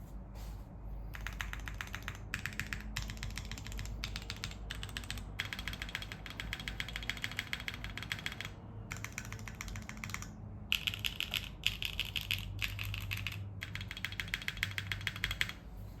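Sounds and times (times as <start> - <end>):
mechanical keyboard typing fast: 1.1 - 15.6.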